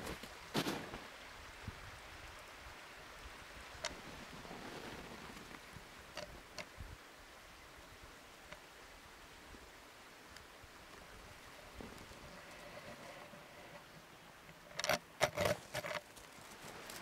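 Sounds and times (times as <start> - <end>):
faint rustling in snow: 0.0 - 14.5, 15.4 - 17.0.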